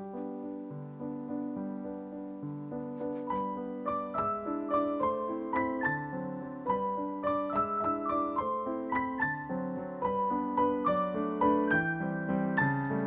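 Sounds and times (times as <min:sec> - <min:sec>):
classical solo piano music: 0:00.0 - 0:13.0.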